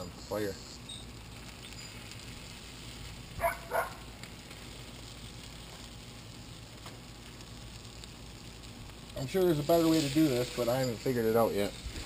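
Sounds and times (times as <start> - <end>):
butter sizzling and crackling: 0.0 - 12.0.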